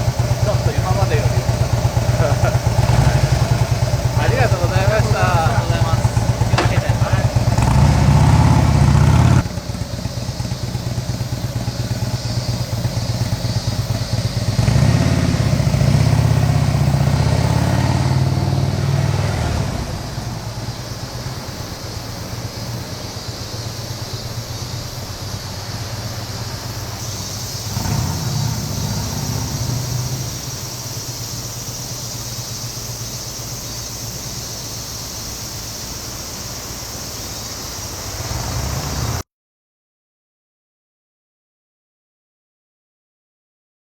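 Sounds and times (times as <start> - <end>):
motorcycle exhaust: 0.0 - 39.2.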